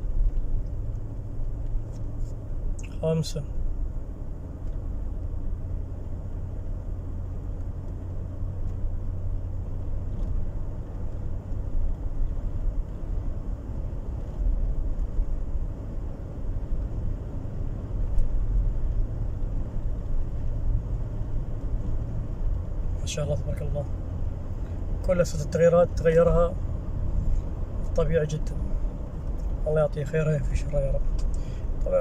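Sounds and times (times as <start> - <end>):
engine and tyre rumble: 0.0 - 32.0.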